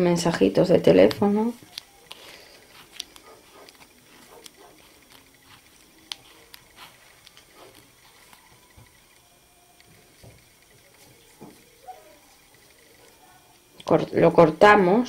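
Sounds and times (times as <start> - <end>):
small clicks of winding yarn: 1.1 - 14.0
yarn rustling while wound by hand: 1.1 - 14.2.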